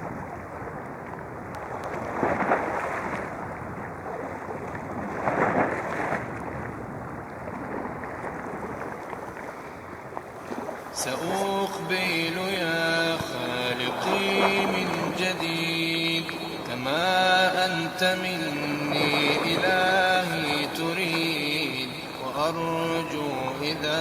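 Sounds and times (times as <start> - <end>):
sea waves washing in: 0.0 - 24.0.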